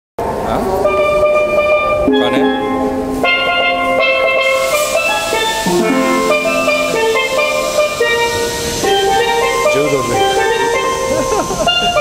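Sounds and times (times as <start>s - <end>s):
steel pan notes: 0.3s - 12.0s.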